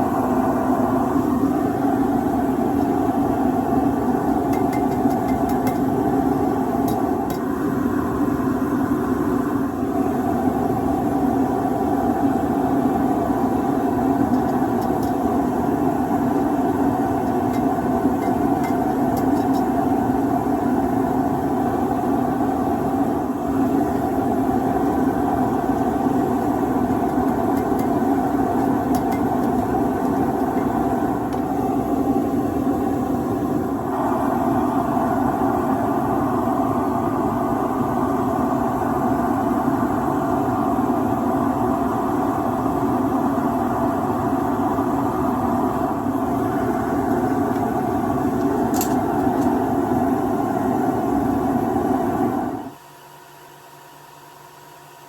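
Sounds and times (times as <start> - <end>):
steady mechanical drone: 0.0 - 52.8.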